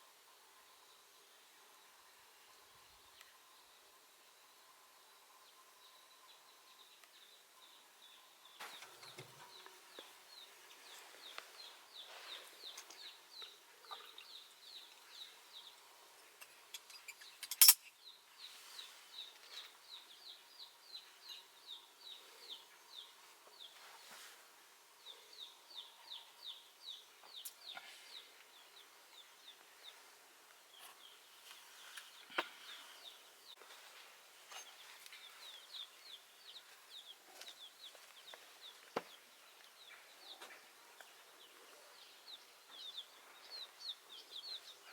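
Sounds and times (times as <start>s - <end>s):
birds chirping: 5.2s - 44.9s.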